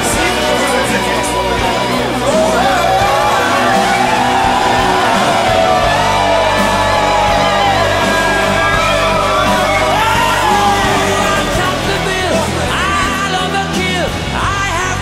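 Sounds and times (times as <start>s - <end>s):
men shouting and singing: 0.0s - 15.0s
music playing: 0.0s - 15.0s.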